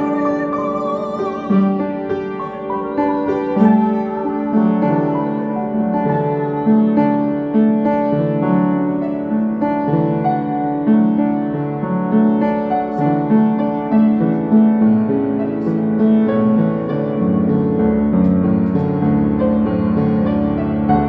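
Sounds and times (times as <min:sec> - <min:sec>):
slow electric piano hymn: 0:00.0 - 0:21.0.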